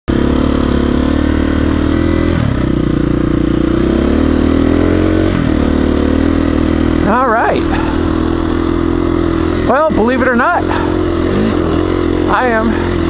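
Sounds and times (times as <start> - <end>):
dirt bike engine running: 0.1 - 13.0.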